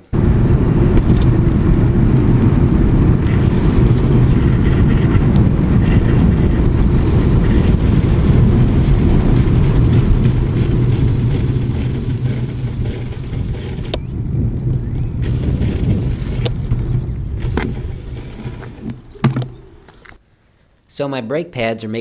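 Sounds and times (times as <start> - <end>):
bicycle road noise: 0.0 - 20.2
wind rushing over microphone: 0.0 - 20.2.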